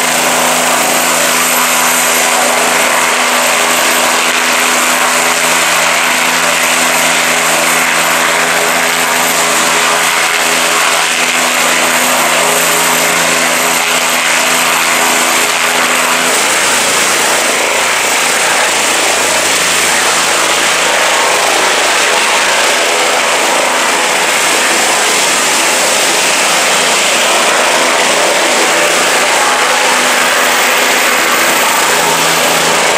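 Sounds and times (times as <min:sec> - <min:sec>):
helicopter engine and rotor: 0:00.0 - 0:32.9.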